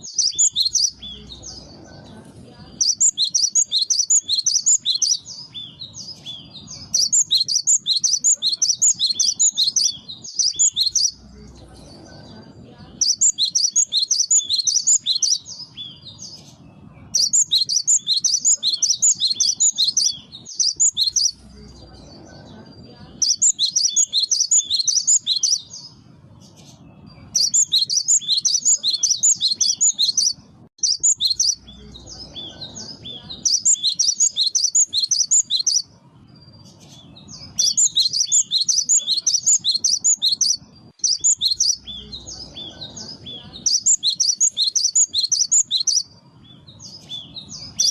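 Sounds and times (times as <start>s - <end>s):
bird singing rapid high notes: 0.0s - 1.8s, 2.7s - 11.6s, 12.9s - 21.8s, 22.7s - 47.9s.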